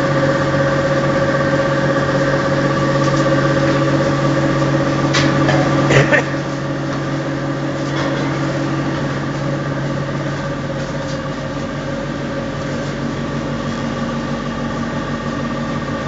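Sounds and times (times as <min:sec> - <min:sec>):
briquette machine humming: 0:00.0 - 0:16.0.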